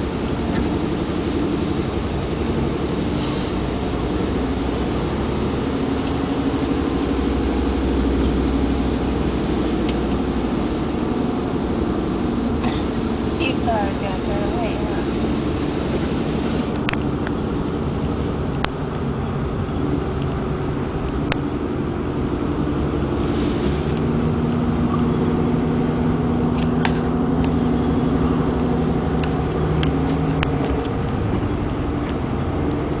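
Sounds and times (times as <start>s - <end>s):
car engine hum: 0.0s - 33.0s
road noise: 0.0s - 33.0s.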